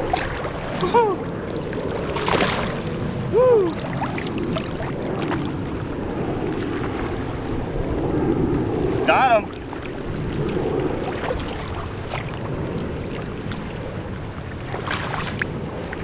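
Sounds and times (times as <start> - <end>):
water splash: 0.0 - 7.4, 9.0 - 13.7, 14.4 - 16.0
seawater sloshing around legs: 0.0 - 16.0
wind on microphone: 0.0 - 16.0.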